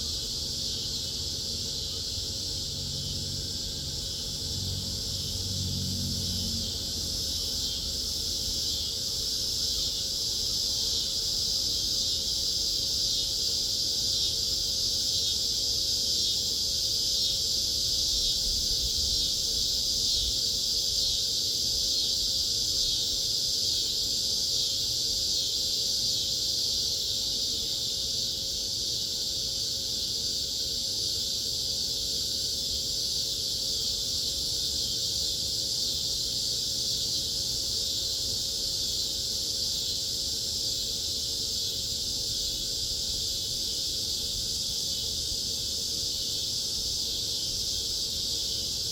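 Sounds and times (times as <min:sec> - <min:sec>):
cicadas buzzing: 0:00.0 - 0:48.9.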